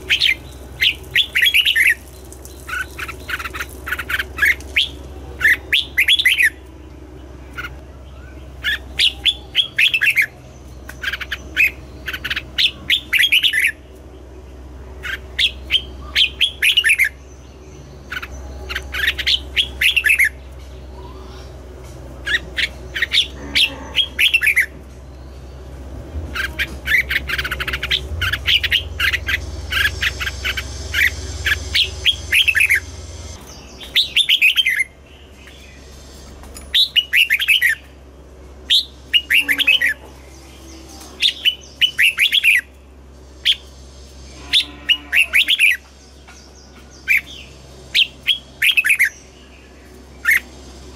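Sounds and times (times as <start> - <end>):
bird chirping phrases: 0.0 - 50.9
steady low hum: 0.0 - 50.9.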